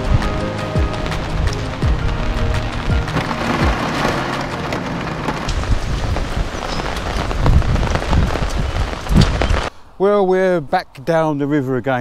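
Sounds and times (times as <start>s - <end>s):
heavy rain on a vehicle roof: 0.0s - 9.7s.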